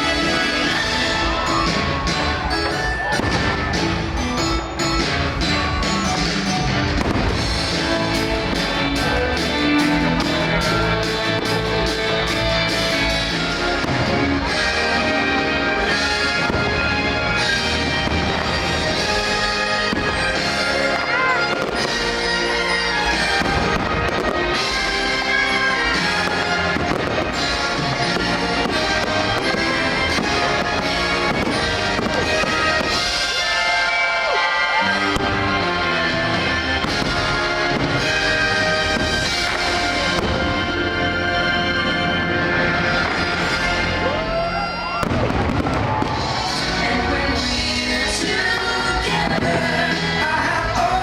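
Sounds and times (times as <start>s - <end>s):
fireworks bursting: 0.0s - 51.0s
soundtrack music: 0.0s - 51.0s.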